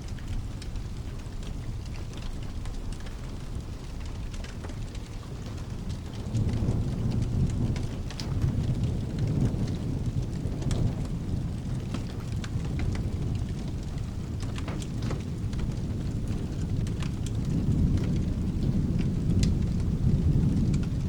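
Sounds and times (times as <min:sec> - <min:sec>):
low rumble of thunder: 0:00.0 - 0:21.0
rain falling: 0:00.0 - 0:21.0.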